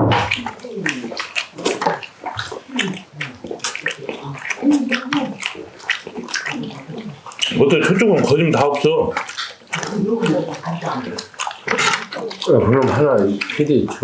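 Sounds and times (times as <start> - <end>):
people chewing wetly: 0.0 - 14.0
smacking mouth noises: 0.0 - 14.0.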